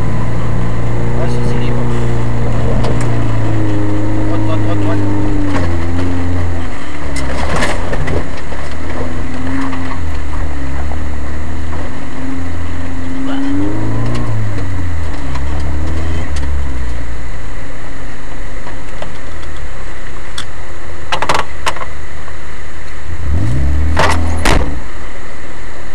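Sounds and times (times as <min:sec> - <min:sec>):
engine running rough: 0:00.0 - 0:25.9.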